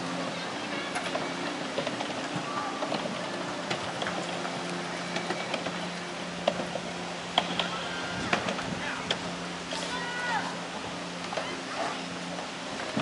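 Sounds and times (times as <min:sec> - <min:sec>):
chairlift humming: 0:00.0 - 0:13.0.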